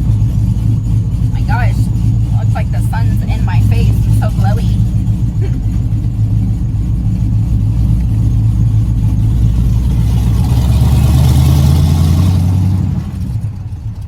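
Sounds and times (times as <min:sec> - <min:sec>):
truck engine accelerating: 0:00.0 - 0:14.0.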